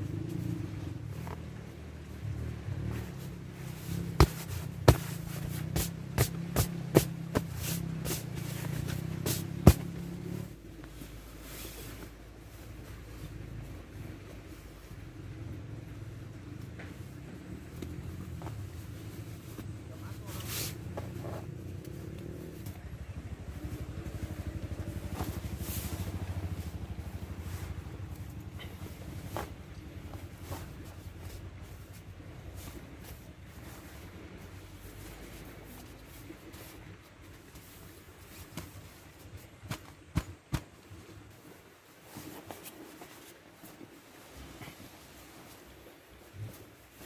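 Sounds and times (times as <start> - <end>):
faint steady background noise: 0.0 - 47.0.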